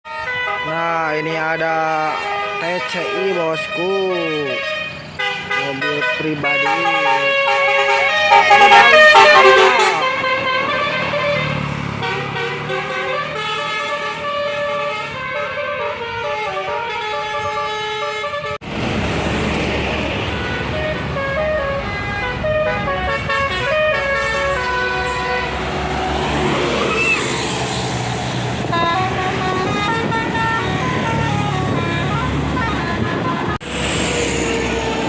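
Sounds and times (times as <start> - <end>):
multi-tone air horn melody: 0.1 - 18.6, 20.3 - 25.6, 28.7 - 33.8
bus engine and road rumble: 0.1 - 35.0.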